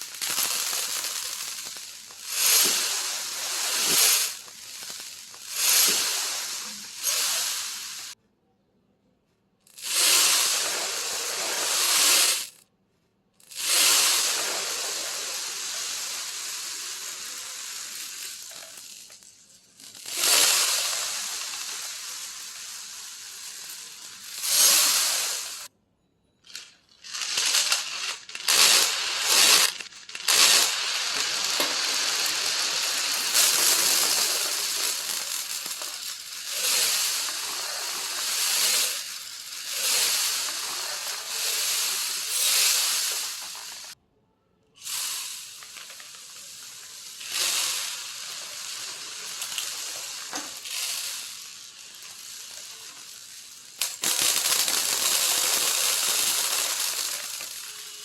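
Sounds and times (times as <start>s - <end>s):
marbles and beads clattering: 0.0s - 8.2s, 9.7s - 12.6s, 13.4s - 25.7s, 26.4s - 44.0s, 44.8s - 58.0s.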